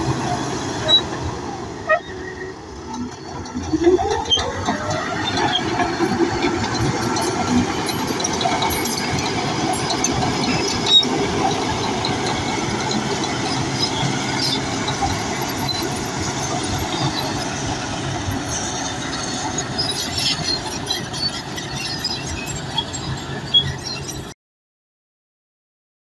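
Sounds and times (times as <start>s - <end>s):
bulldozer engine running: 0.0s - 24.4s
squealing and clicking tracks: 0.0s - 24.4s.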